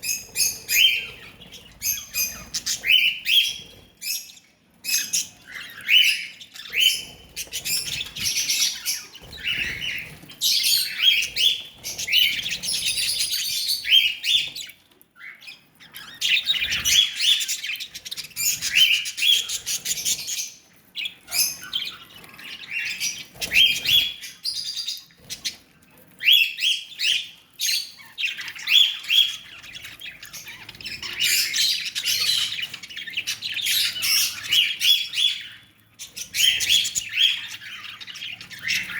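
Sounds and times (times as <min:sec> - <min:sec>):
lovebirds chirping and chattering: 0:00.0 - 0:38.9.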